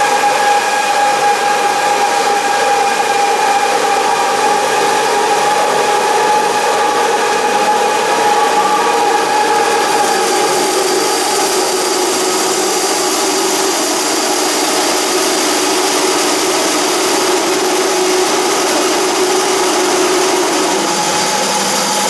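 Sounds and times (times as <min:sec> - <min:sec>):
drilling machine cutting steel: 0:00.0 - 0:22.0.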